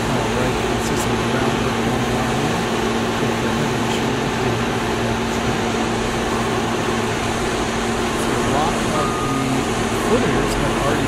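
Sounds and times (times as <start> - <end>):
heavy machinery engine drone: 0.0 - 11.0.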